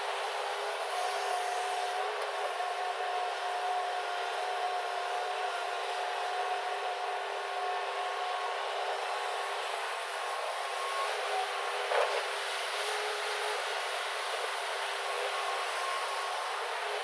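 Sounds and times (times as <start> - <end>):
thin steady whine: 0.0 - 17.0.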